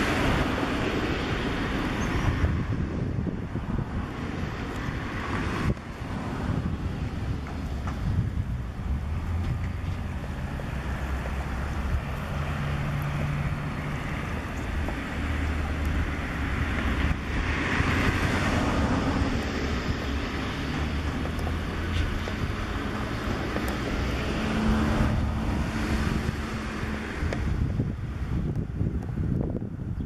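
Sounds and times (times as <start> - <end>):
rush of noise: 0.0 - 30.0
wind on microphone: 0.0 - 30.0.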